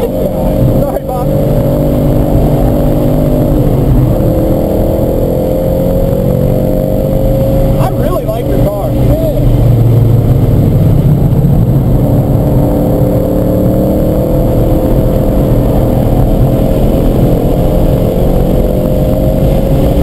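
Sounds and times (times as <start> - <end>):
car engine at high revs: 0.0 - 20.0
road and wind rumble: 0.0 - 20.0.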